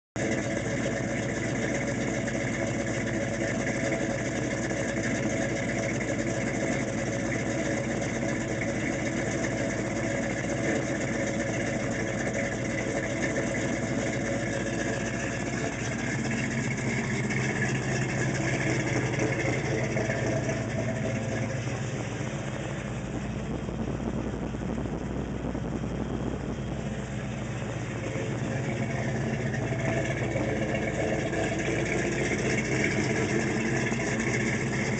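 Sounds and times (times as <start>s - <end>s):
car engine idling: 0.2s - 34.9s.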